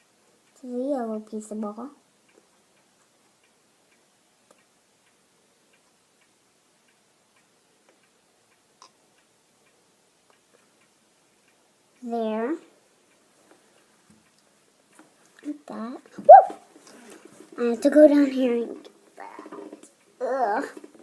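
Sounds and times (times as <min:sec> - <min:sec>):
faint small clicks and ticks: 0:00.0 - 0:21.0.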